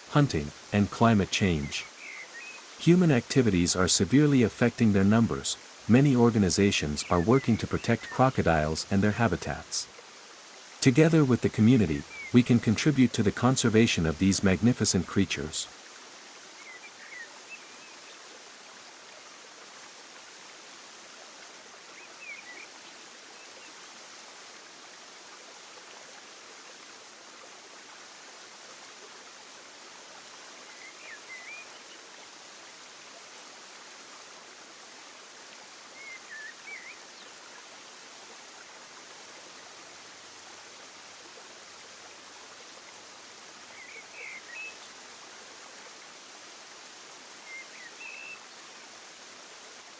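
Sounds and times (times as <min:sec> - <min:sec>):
flowing water rushing: 0:00.0 - 0:49.9.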